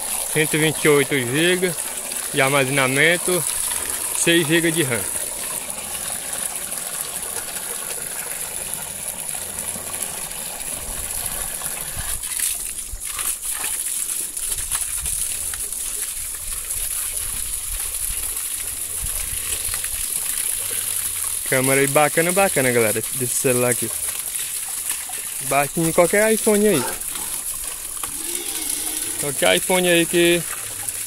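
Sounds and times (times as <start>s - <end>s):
liquid pouring into trough: 0.0s - 31.0s.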